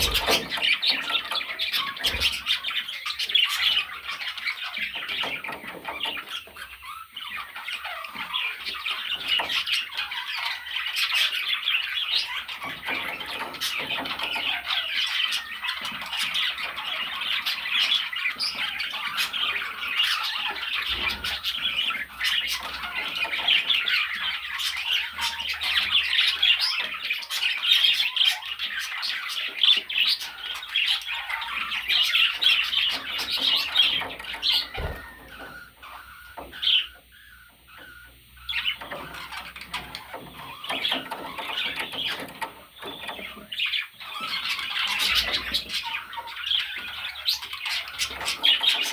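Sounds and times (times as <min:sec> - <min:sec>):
budgerigars chattering: 0:00.0 - 0:48.9.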